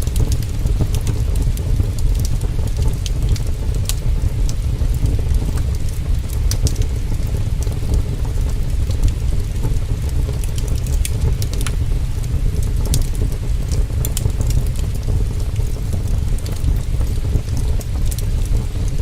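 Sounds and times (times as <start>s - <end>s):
heavy rain: 0.0s - 19.0s
log fire crackling: 0.0s - 19.0s.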